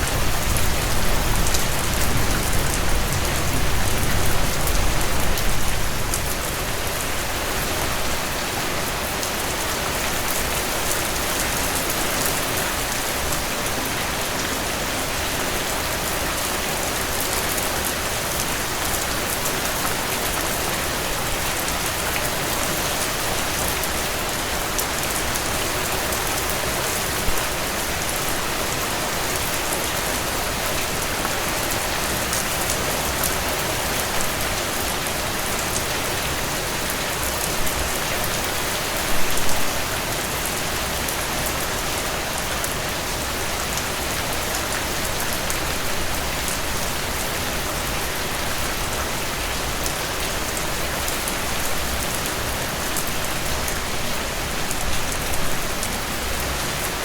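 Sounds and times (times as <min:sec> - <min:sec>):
heavy rain on a porch: 0:00.0 - 0:57.0.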